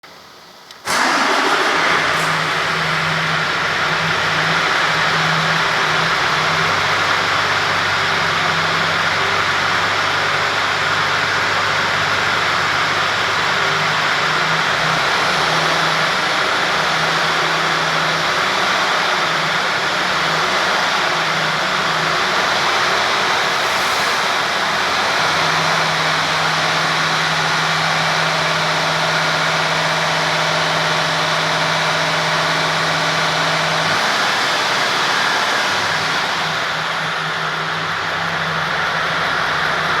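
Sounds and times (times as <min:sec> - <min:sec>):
diesel truck engine idling: 0:00.2 - 0:40.0.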